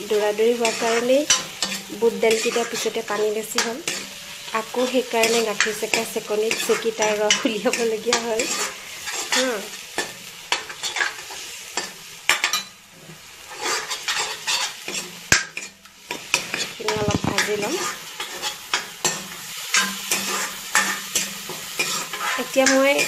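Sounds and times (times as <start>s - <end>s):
paste sizzling in oil: 0.0s - 23.0s
spoon scraping a wok: 0.1s - 23.0s.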